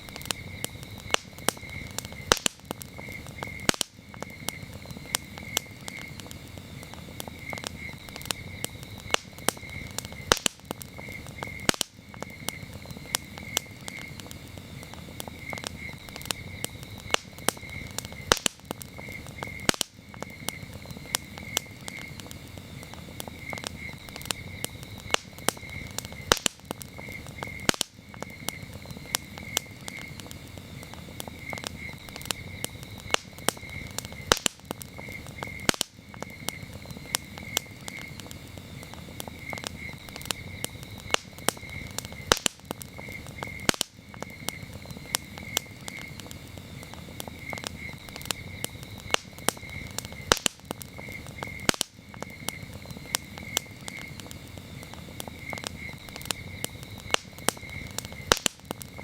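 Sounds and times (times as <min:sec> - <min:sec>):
campfire popping and crackling: 0:00.0 - 0:59.0
crickets chirping: 0:00.0 - 0:59.0.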